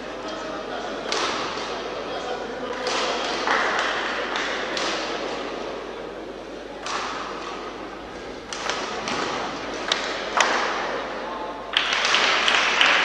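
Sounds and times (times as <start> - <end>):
murmur of spectators in a hall: 0.0 - 13.0.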